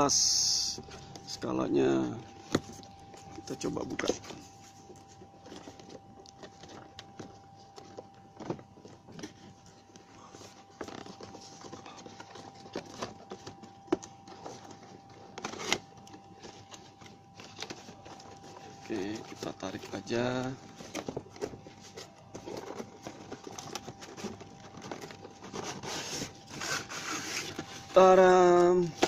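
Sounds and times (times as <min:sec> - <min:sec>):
cardboard packaging rustling: 0:00.0 - 0:29.0
faint steady hum: 0:00.0 - 0:29.0.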